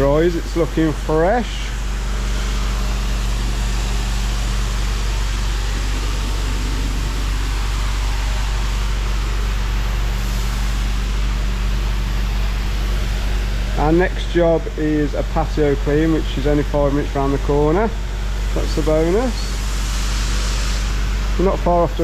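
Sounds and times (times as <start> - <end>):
high-pressure water jet hiss: 0.0 - 22.0
pressure washer engine hum: 0.0 - 22.0.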